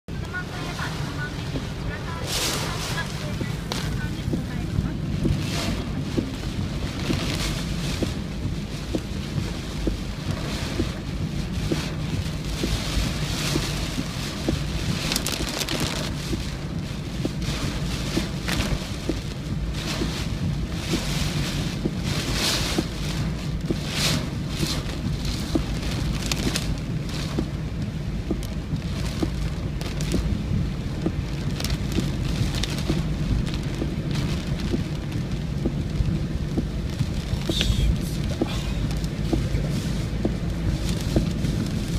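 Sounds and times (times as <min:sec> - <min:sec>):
heavy rain: 0:00.1 - 0:41.9.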